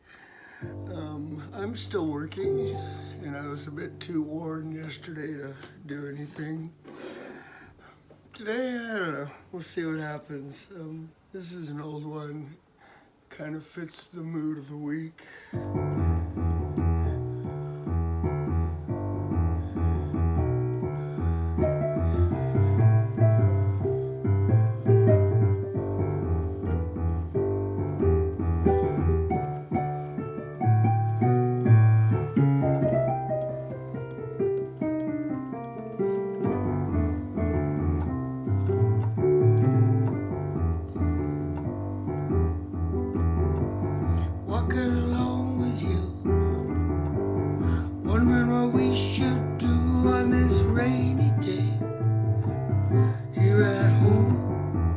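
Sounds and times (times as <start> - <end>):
solo piano chords: 0.6 - 7.3, 15.5 - 54.9.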